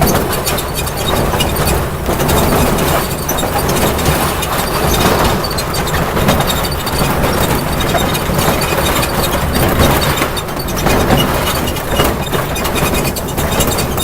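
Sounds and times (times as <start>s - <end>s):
ride-on train rumbling: 0.0s - 14.0s
wheels clattering on rails: 0.0s - 14.0s.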